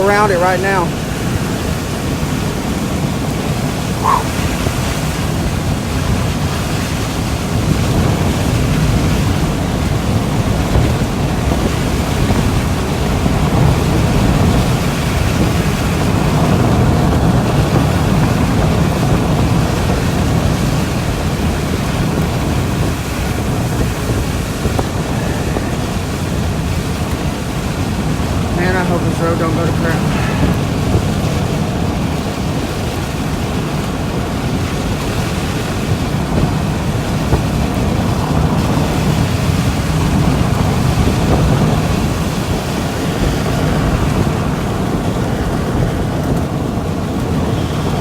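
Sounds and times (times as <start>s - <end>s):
wind and road noise inside car: 0.0s - 48.0s.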